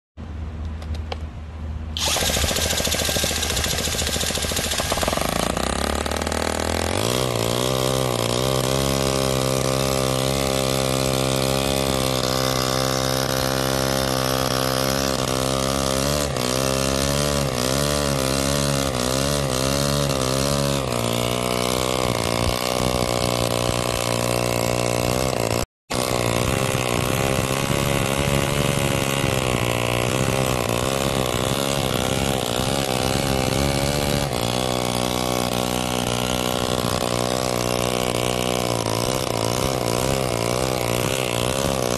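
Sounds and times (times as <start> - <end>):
model engine starter spinning: 2.0 - 16.4, 18.5 - 41.9
small gasoline engine running: 2.0 - 41.9.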